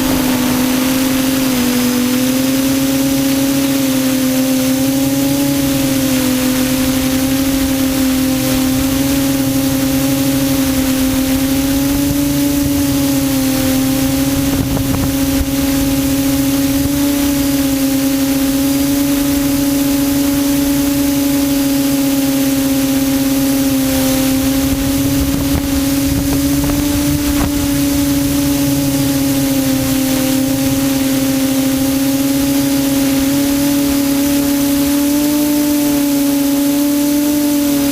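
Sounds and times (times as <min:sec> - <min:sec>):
prop wash and wind rushing: 0:00.0 - 0:37.9
quadcopter motors droning: 0:00.0 - 0:37.9.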